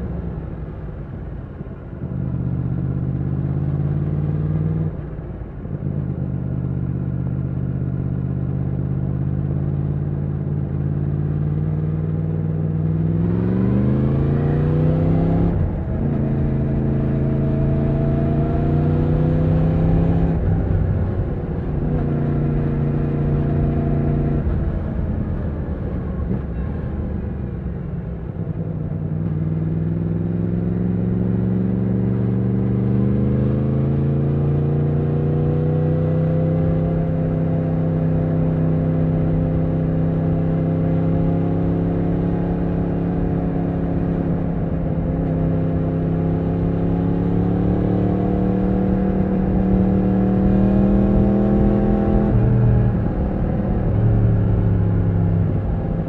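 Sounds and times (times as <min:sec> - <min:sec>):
motorcycle engine accelerating: 0:05.8 - 0:56.0.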